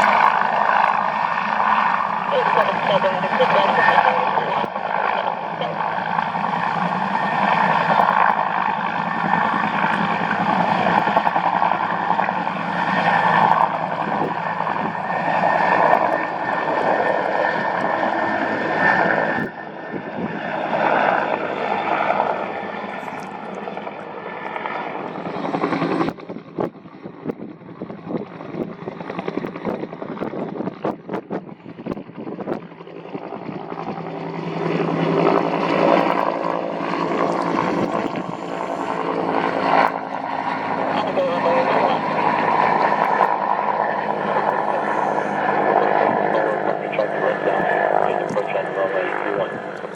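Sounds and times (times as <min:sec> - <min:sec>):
choppy rotor pulsing: 0:00.0 - 0:49.9
helicopter turbine and rotor drone: 0:00.0 - 0:49.9.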